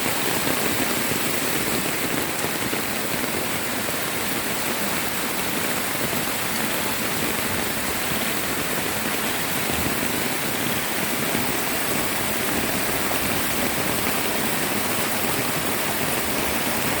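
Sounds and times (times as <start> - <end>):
floodwater rushing: 0.0 - 17.0
heavy rain: 0.0 - 17.0.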